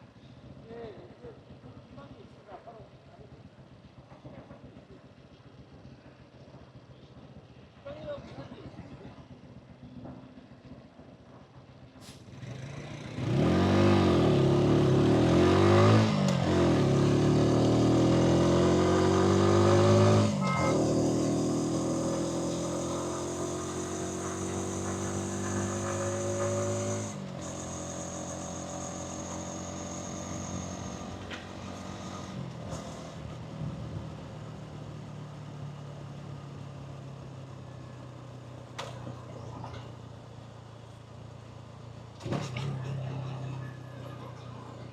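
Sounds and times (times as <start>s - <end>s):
motorcycle engine and exhaust: 0.0s - 44.9s.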